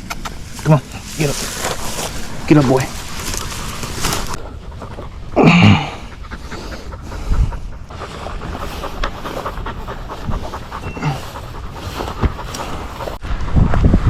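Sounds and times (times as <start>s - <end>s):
dog panting hard: 0.8s - 13.2s.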